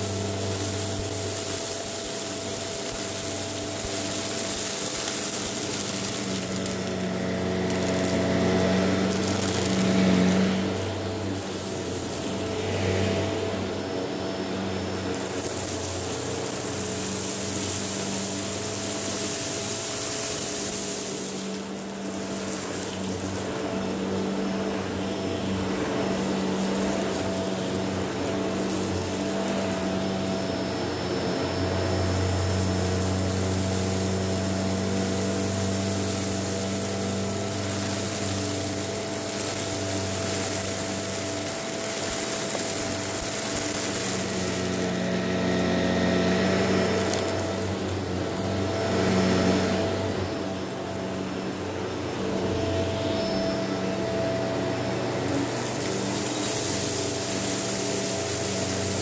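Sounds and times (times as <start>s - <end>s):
vacuum cleaner on carpet: 0.0s - 59.0s.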